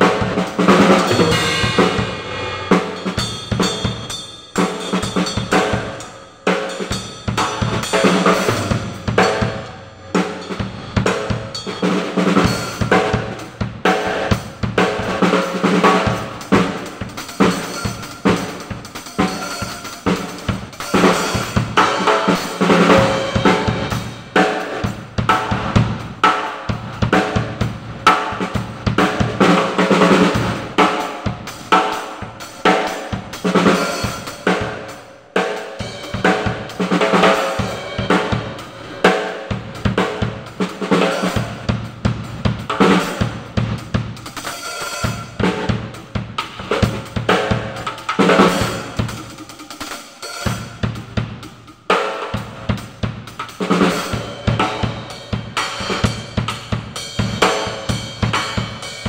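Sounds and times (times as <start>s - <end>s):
cymbal crashes: 0.0s - 14.3s, 14.9s - 59.0s
drum kit steady beat: 0.0s - 59.0s.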